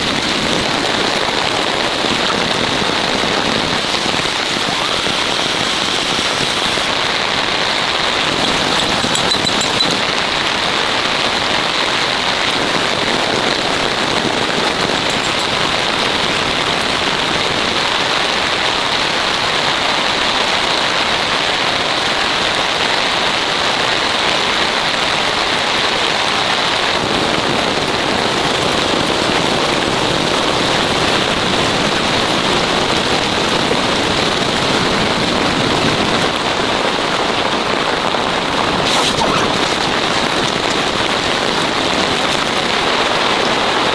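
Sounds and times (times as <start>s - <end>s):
heavy rain on a tent: 0.0s - 43.9s.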